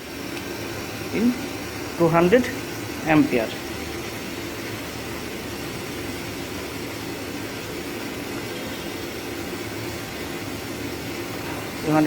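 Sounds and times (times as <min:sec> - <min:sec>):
machinery humming and hissing: 0:00.0 - 0:12.0.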